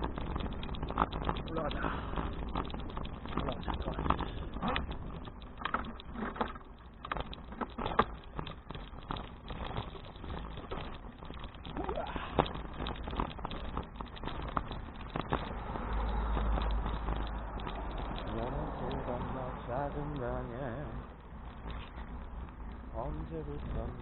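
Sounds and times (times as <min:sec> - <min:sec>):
bicycle rattling and clicking: 0:00.0 - 0:24.0.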